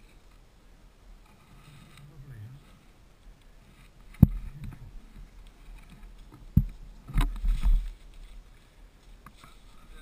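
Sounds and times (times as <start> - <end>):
brush rustling: 0.0 - 10.0.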